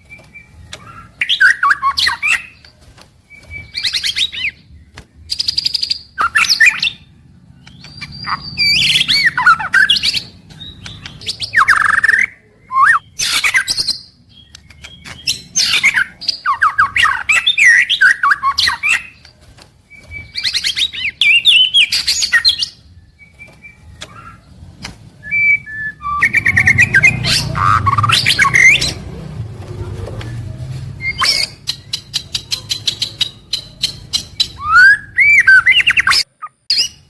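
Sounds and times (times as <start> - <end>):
bird singing whistles: 0.0 - 2.7, 3.3 - 19.2, 19.9 - 24.4, 25.2 - 29.0, 31.0 - 37.0.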